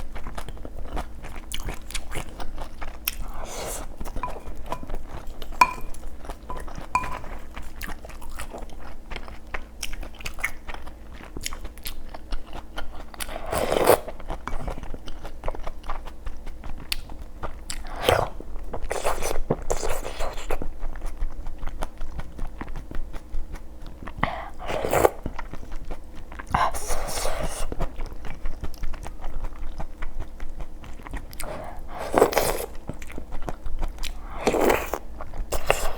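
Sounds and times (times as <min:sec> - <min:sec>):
crunchy chewing: 0:00.0 - 0:35.9.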